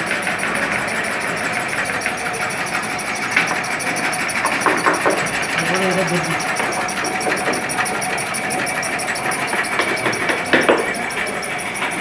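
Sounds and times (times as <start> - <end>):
motor running steadily: 0.0 - 12.0
quick repeated taps: 0.2 - 12.0.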